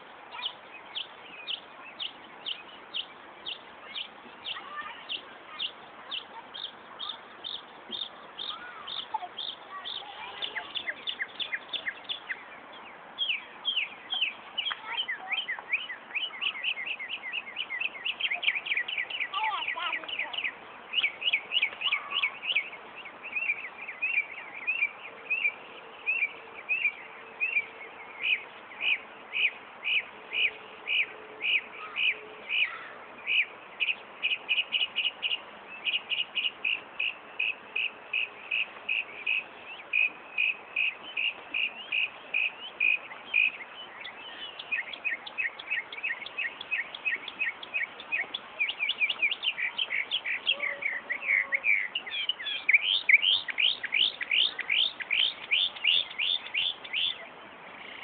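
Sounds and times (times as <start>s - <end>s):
bird singing rapid sharp chirps: 0.0s - 58.0s.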